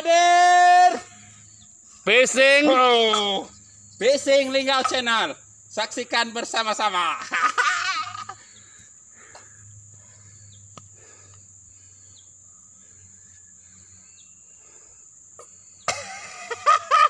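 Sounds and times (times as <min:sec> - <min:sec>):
high-pitched insect drone: 0:00.0 - 0:17.0
faint chirps: 0:00.5 - 0:05.9, 0:07.9 - 0:16.6.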